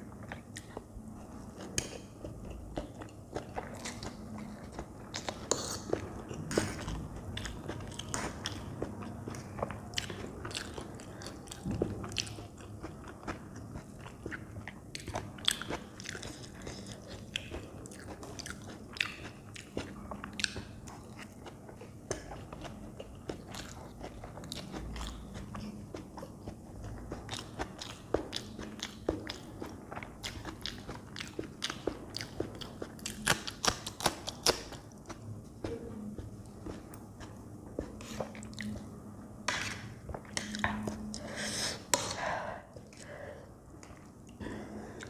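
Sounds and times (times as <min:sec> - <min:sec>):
wet chewing: 0:00.2 - 0:39.0.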